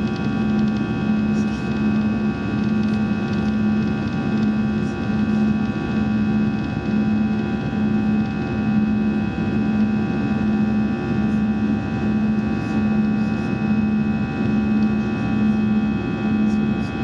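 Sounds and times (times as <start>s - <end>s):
airplane cabin engine drone: 0.0s - 17.0s
pulsing low hum: 0.0s - 17.0s.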